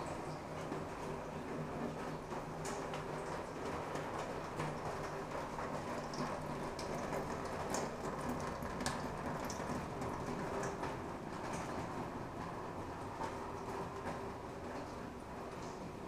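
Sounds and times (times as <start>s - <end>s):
water pattering on a roof: 0.0s - 16.0s.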